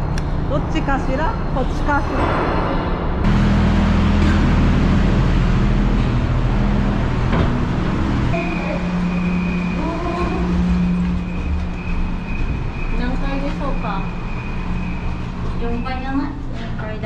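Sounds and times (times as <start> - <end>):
ferry machinery drone: 0.0 - 17.0
steady high-pitched tone: 3.2 - 17.0.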